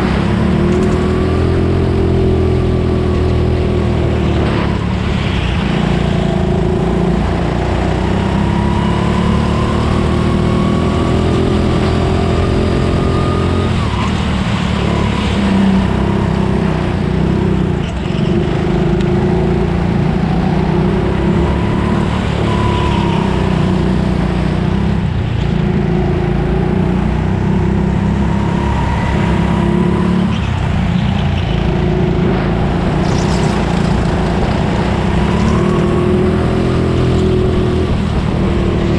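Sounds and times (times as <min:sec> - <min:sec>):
go-kart engine revving: 0:05.6 - 0:38.9.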